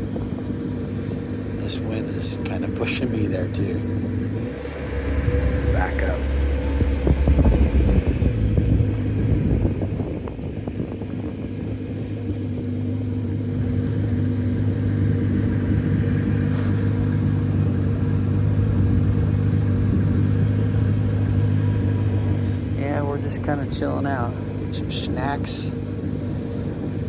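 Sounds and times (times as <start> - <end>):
boat motor idling: 0.0 - 27.0.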